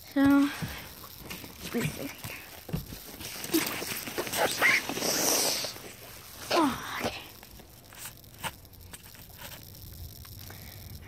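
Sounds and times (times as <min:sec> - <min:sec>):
plastic bags and boxes rustling: 0:00.0 - 0:09.7.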